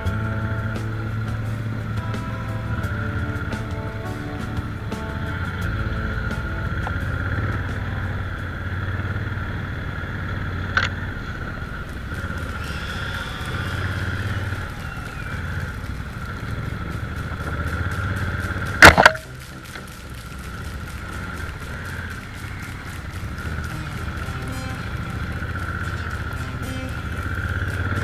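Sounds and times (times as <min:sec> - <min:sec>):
motorcycle engine throbbing: 0:00.0 - 0:28.0.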